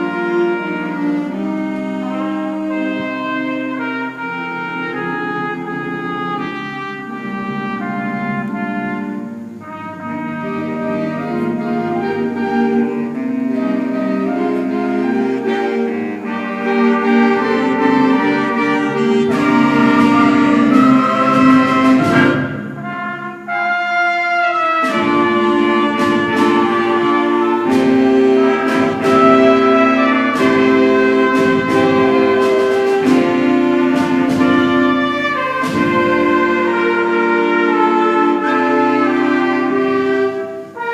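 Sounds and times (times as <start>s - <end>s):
wind band playing: 0.0s - 40.9s.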